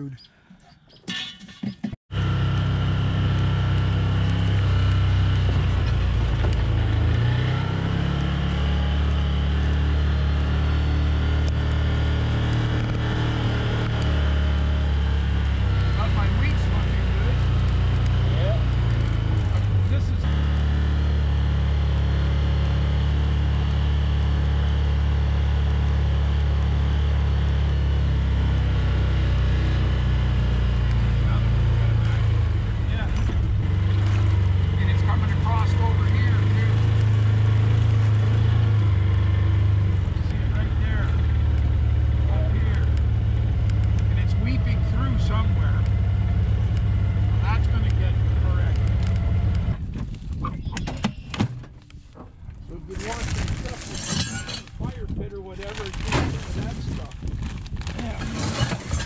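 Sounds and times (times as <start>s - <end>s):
utility vehicle engine running: 2.1s - 59.0s.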